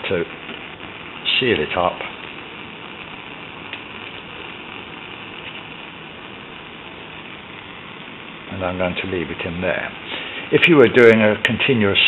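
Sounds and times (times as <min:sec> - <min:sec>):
gas burner flame roaring hiss: 0:00.0 - 0:12.0.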